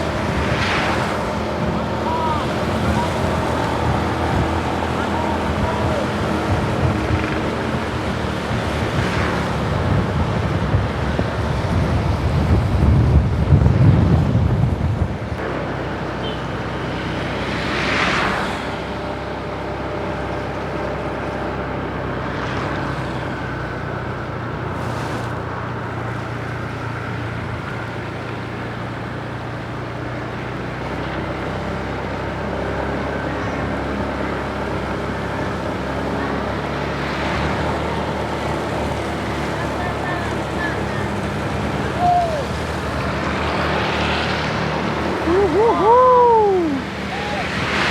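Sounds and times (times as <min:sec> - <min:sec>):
low engine hum: 0:00.0 - 0:47.9
passing traffic whooshes: 0:00.0 - 0:47.9
road noise: 0:00.0 - 0:47.9.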